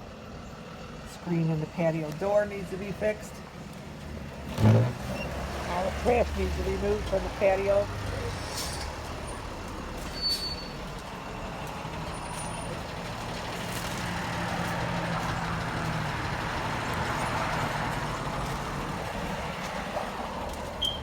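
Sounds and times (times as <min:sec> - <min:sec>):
low engine hum: 0:00.0 - 0:21.0
road traffic: 0:00.0 - 0:21.0.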